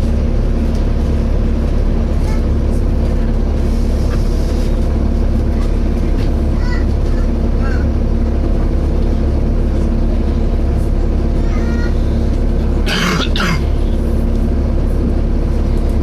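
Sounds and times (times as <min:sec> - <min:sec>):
bus engine drone: 0:00.0 - 0:16.0.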